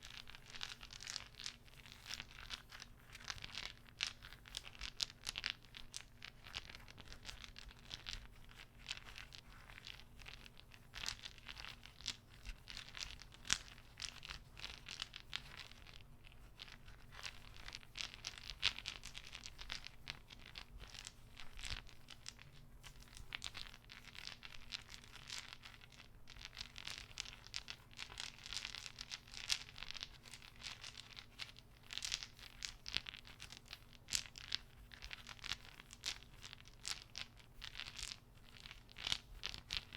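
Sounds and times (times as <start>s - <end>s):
soft clicks of small objects: 0.0s - 39.9s.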